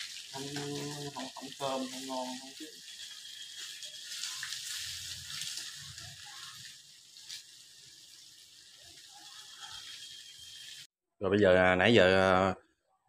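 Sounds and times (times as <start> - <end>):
meat sizzling in a pot: 0.0 - 10.9.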